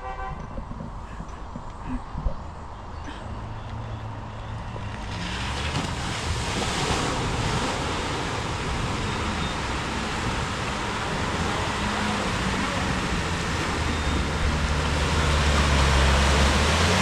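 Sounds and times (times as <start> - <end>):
vehicle engine droning low: 0.0 - 17.0.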